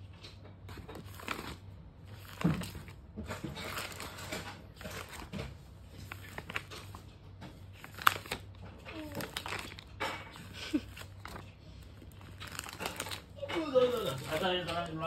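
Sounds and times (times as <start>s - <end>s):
plastic pages crinkling: 0.0s - 15.0s.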